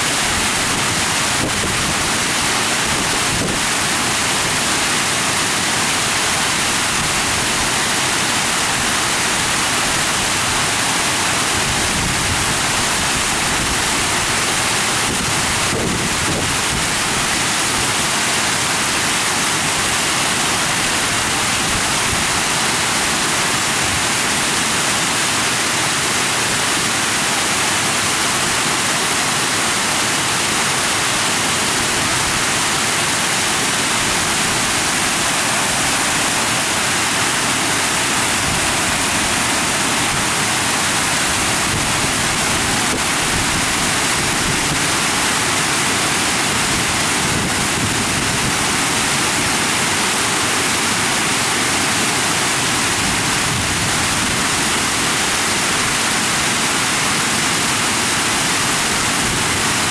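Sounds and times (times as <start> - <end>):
water spray splashing on pond: 0.0 - 59.9.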